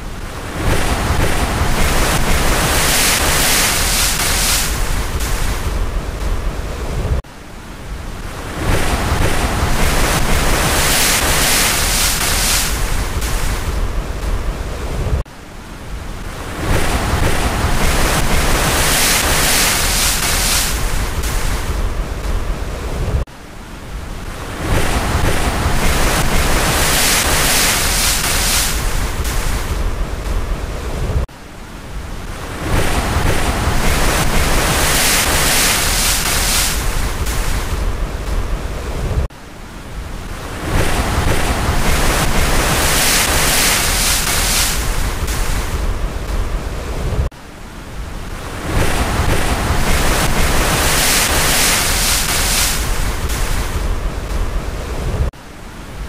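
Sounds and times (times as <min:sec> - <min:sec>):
ocean waves washing: 0:00.0 - 0:56.0.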